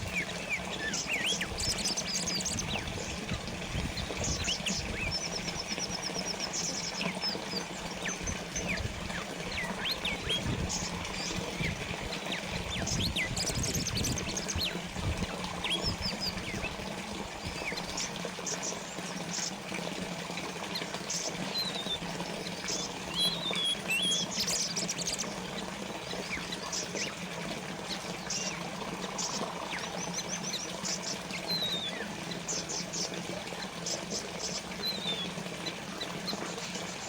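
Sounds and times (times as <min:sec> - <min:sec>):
small birds chirping: 0:00.0 - 0:37.0
water trickling and splashing: 0:00.0 - 0:37.0.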